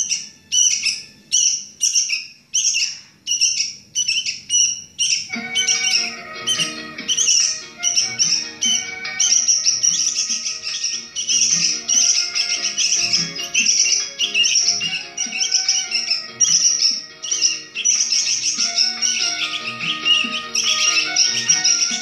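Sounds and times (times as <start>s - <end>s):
background music: 0.0s - 1.8s, 5.3s - 22.0s
songbird chirping: 0.0s - 22.0s.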